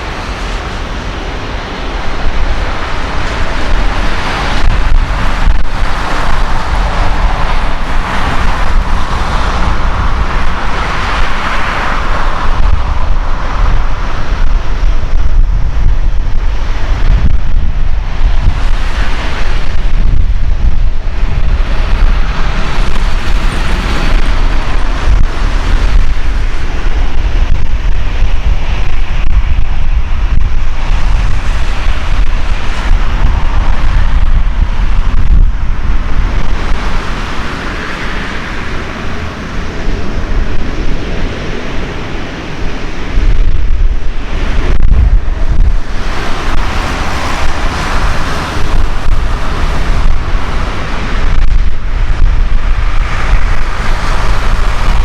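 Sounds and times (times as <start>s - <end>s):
jet engines roaring: 0.0s - 55.0s
wind buffeting microphone: 0.0s - 55.0s.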